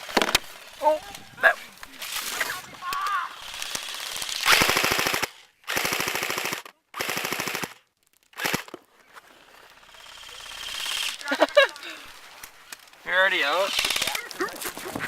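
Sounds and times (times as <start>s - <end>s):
airsoft rifle firing bursts: 0.0s - 8.8s, 9.7s - 11.9s, 13.1s - 14.5s.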